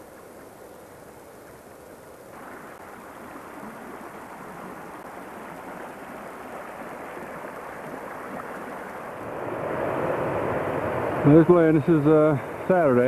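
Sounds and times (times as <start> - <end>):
flowing stream rushing: 0.0 - 13.0.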